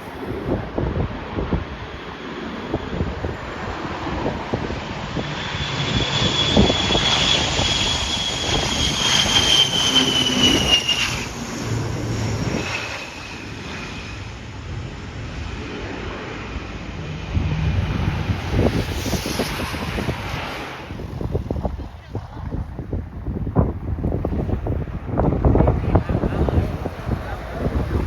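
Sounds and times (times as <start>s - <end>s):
jet engines whining: 0.0s - 28.0s
wind buffeting microphone: 0.0s - 28.0s.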